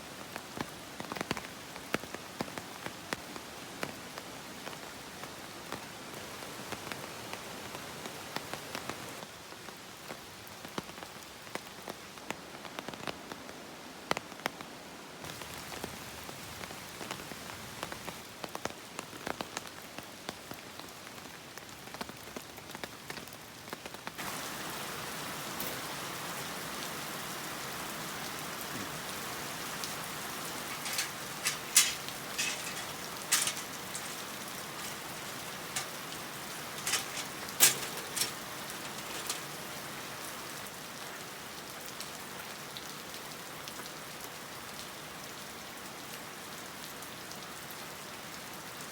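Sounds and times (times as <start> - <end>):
light rain pattering: 0.0 - 48.9.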